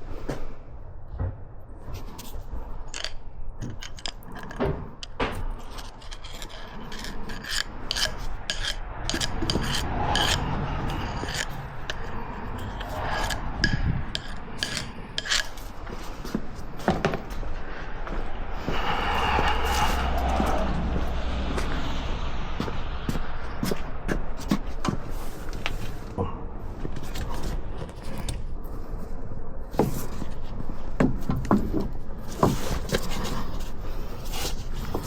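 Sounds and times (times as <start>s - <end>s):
rubbing and scraping: 1.8s - 26.1s, 26.8s - 35.0s.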